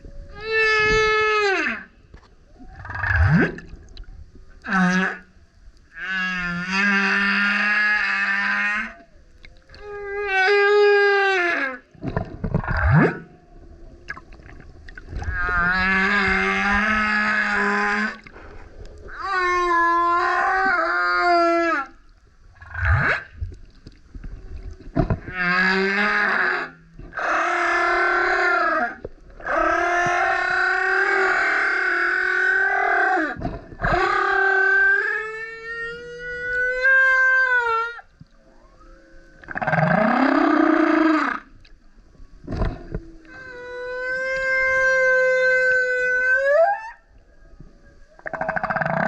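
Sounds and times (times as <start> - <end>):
whale singing: 4.6 - 23.5, 24.3 - 49.0.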